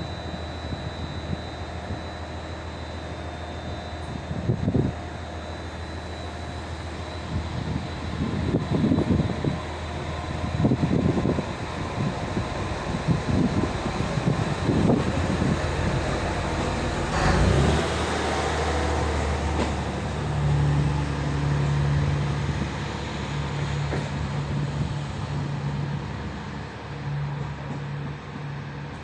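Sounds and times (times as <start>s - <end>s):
railcar engine hum: 0.0s - 29.0s.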